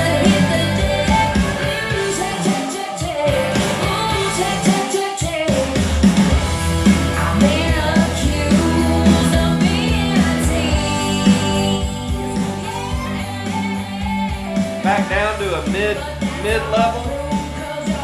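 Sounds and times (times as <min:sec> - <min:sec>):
pop-rock song over loudspeakers: 0:00.0 - 0:18.0.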